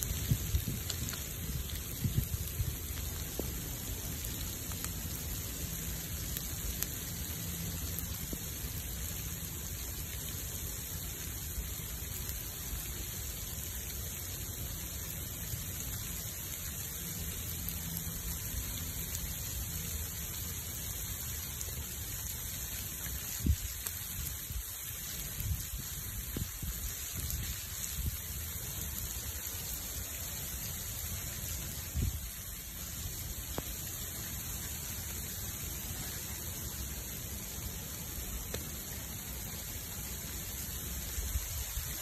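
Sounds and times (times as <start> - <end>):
fire crackling: 0.0 - 42.0
freezing rain hissing: 0.0 - 42.0.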